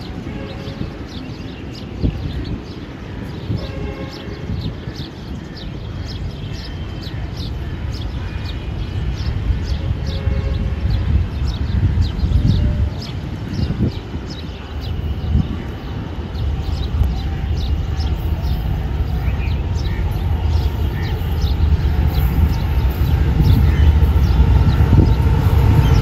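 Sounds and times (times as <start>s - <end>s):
train coaches rumbling past: 0.0s - 26.0s.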